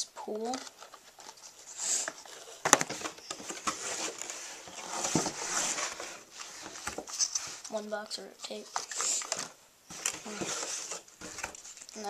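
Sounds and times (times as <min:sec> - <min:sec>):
paper and cardboard rustling: 0:00.3 - 0:12.0.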